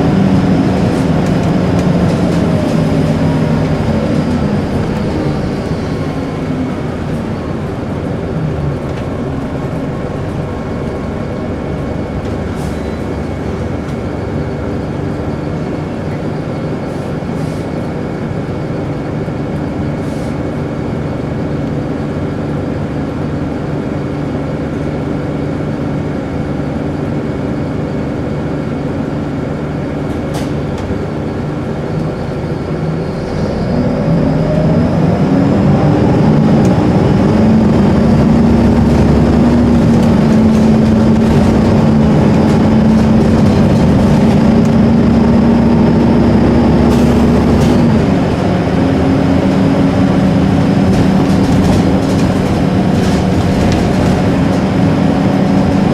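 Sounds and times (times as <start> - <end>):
drivetrain whine: 0.0 - 19.8, 20.6 - 55.9
bus engine running: 0.0 - 55.9.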